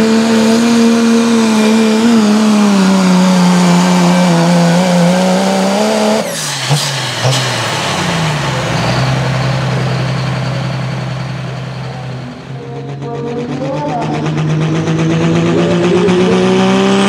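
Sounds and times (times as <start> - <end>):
diesel engine revving then idling: 0.0 - 17.0.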